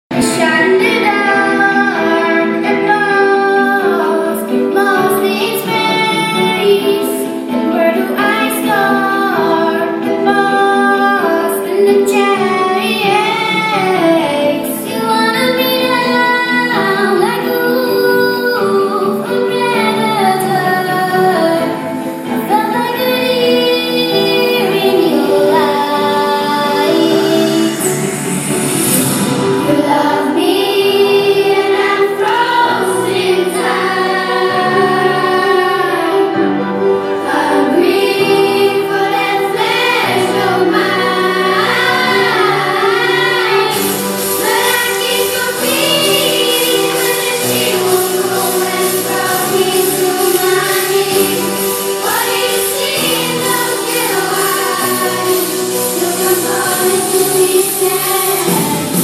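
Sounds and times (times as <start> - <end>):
pop song with female vocal: 0.1 - 59.0.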